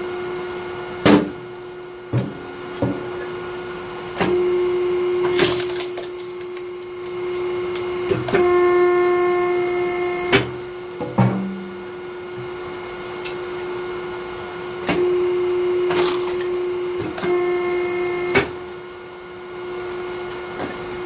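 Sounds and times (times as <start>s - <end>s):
hydraulic pump humming and whining: 0.0s - 21.0s.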